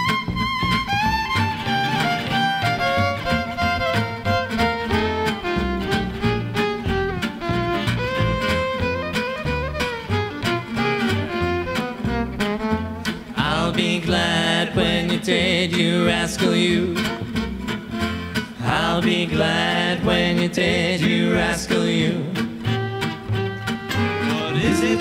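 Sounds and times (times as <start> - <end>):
violin melody: 0.0 - 16.0, 16.7 - 25.0
strummed acoustic guitar: 0.0 - 25.0
upright bass: 0.0 - 25.0.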